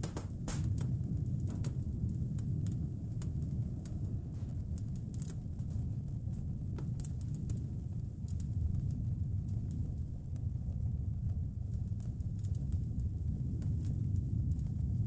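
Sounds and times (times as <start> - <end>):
low rumble: 0.0 - 15.0
wood fire crackling: 0.0 - 15.0.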